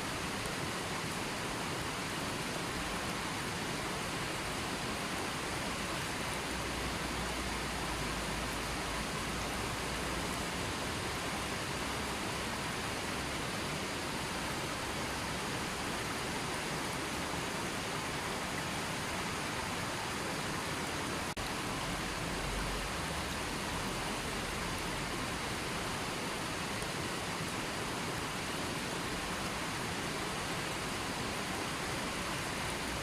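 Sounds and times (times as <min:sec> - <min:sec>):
river water flowing: 0:00.0 - 0:33.0.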